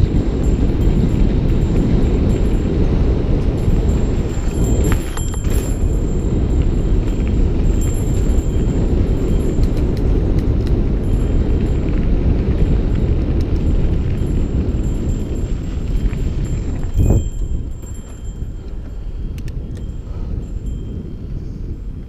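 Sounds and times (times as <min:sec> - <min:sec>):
bike rattling: 0:00.0 - 0:22.0
wind rumbling on microphone: 0:00.0 - 0:22.0.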